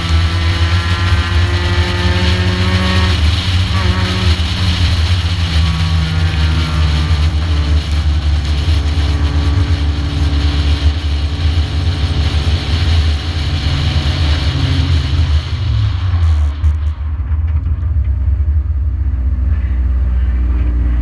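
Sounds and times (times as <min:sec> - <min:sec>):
constant rushing noise: 0:00.0 - 0:21.0
race car engine running: 0:00.0 - 0:21.0.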